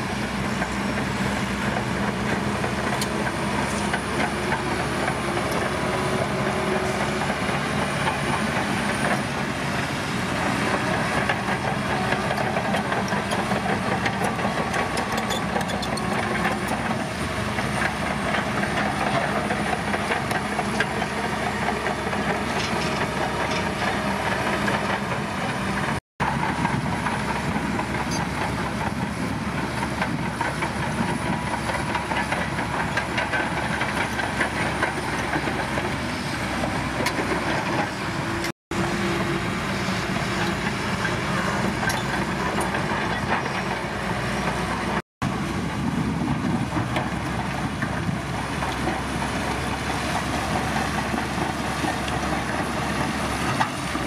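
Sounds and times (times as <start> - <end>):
bulldozer diesel engine under load: 0.0 - 54.0
steel tracks clanking: 0.0 - 54.0.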